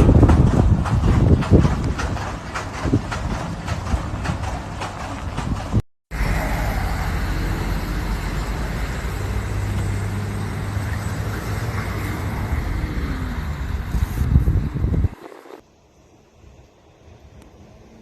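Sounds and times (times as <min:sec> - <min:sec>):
vehicle engine running: 0:00.0 - 0:15.2
loud rushing noise: 0:00.0 - 0:15.6.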